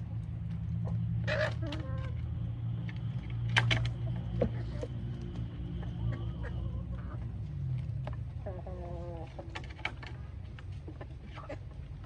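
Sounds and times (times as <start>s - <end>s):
low hum: 0.0s - 10.8s
chickens calling: 0.0s - 12.0s.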